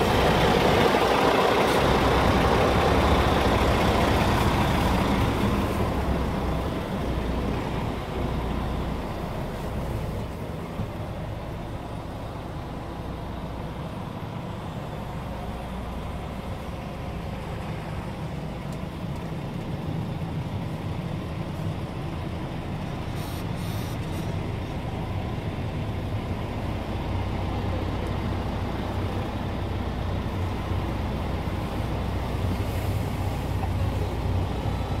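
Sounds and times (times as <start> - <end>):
truck diesel engine idling: 0.0 - 35.0.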